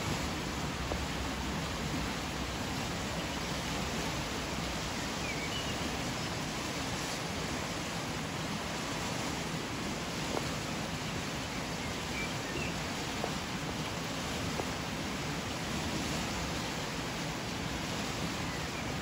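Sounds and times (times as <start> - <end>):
fast river rushing: 0.0 - 19.0.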